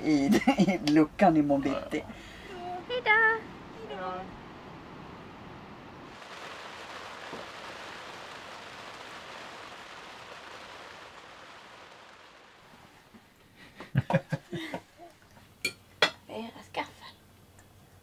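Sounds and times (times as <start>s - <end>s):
rain falling on a boat: 0.0s - 15.5s.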